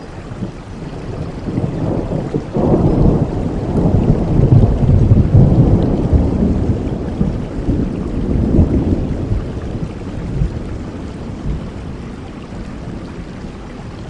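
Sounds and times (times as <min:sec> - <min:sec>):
steady rain: 0:00.0 - 0:14.0
rolling thunder: 0:00.4 - 0:13.1.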